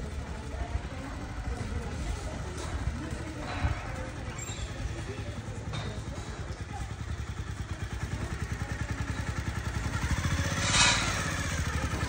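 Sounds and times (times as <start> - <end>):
motor engine rumbling: 0.0 - 12.0.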